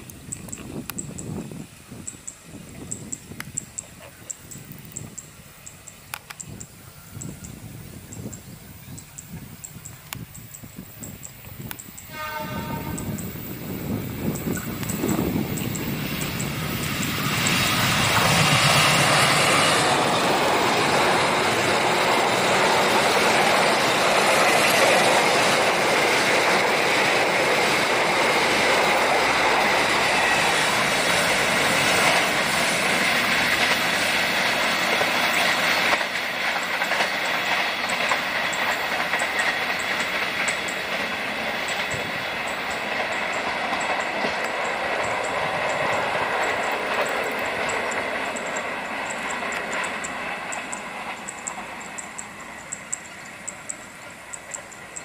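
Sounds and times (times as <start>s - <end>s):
train wheels clattering over rails: 2.1s - 55.0s.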